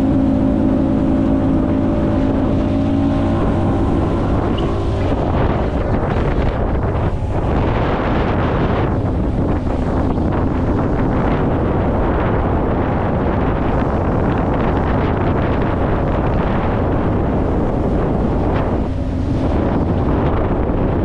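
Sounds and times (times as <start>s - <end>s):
outboard motor drone: 0.0s - 21.0s
water rushing past hull: 0.0s - 21.0s
wind buffeting microphone: 0.0s - 21.0s.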